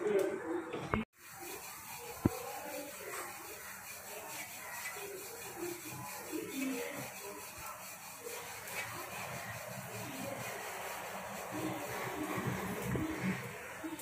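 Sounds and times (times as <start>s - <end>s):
rolling pin rubbing on dough: 1.2s - 14.0s.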